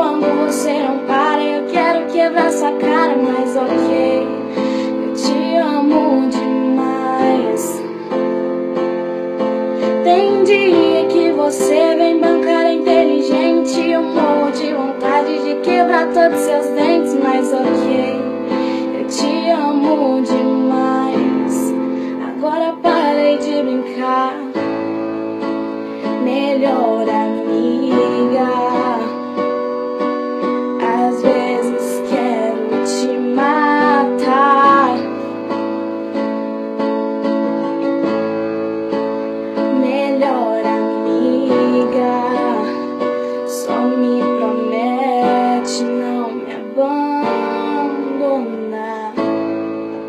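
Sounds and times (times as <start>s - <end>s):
woman singing: 0.0s - 36.1s, 36.8s - 50.0s
piano accompaniment: 0.0s - 50.0s.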